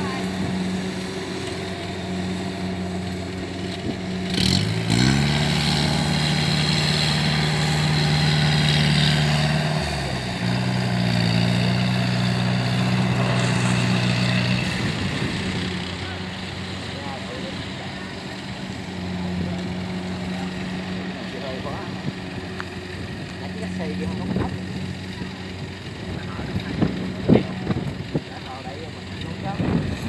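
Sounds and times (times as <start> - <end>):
harvesting machine engine running: 0.0 - 30.0.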